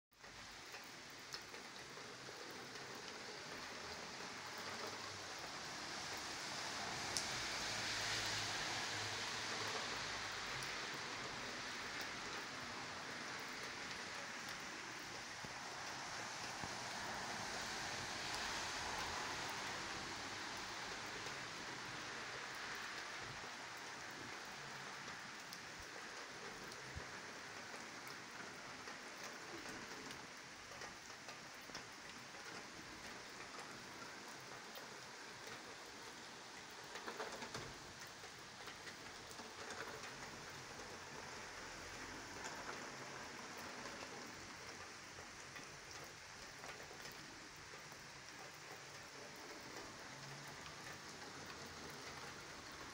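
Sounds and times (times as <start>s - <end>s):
rain on paved ground: 0.1s - 52.9s.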